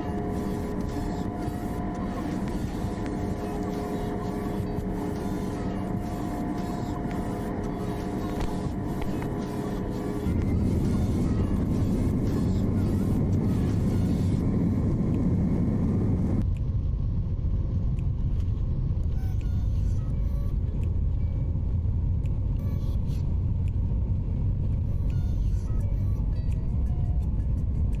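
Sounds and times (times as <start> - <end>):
vehicle rumble in motion: 0.0 - 28.0.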